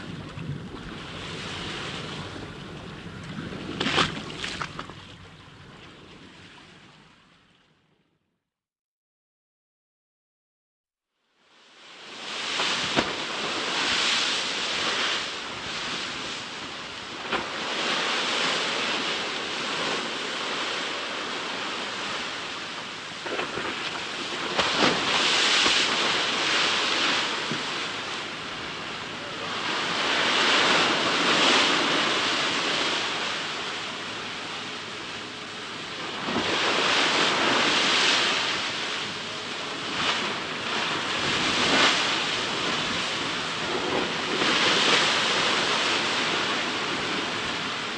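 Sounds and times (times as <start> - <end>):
ocean waves breaking: 0.0 - 7.7, 11.6 - 47.9.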